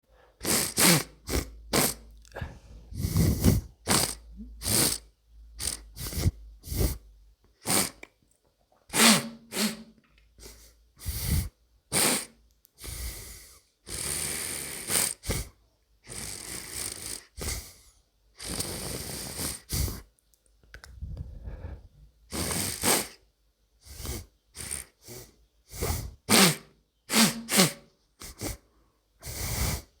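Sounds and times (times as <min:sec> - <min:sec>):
hissing breaths through nose: 0:00.2 - 0:07.0, 0:07.6 - 0:08.0, 0:08.9 - 0:20.1, 0:21.0 - 0:23.2, 0:23.8 - 0:30.0
congested nose sniffing and snorting: 0:00.4 - 0:02.1, 0:02.8 - 0:07.0, 0:07.6 - 0:08.1, 0:08.9 - 0:20.1, 0:22.3 - 0:23.2, 0:23.8 - 0:30.0.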